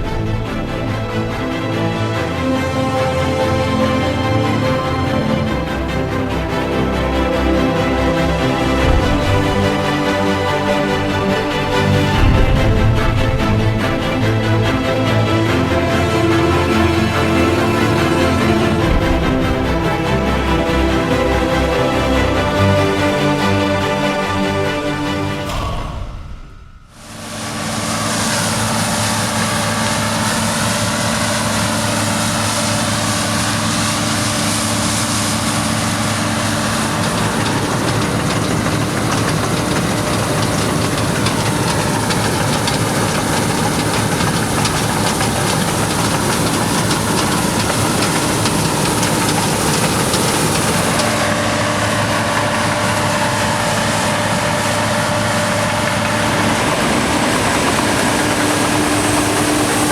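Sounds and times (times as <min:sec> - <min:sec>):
combine harvester drone: 0:00.0 - 0:25.8, 0:27.0 - 0:59.9.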